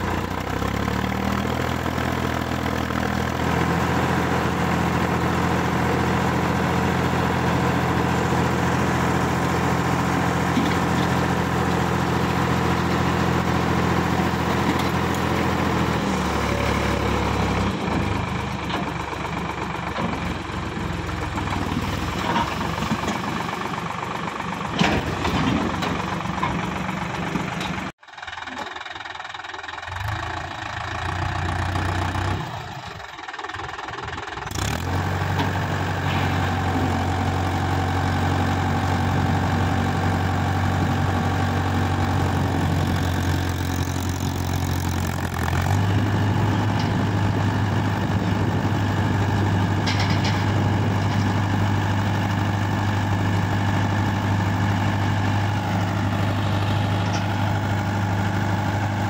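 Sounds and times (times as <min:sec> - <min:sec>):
tractor diesel engines idling: 0:00.0 - 0:59.0
tractor engine running evenly: 0:00.0 - 0:59.0.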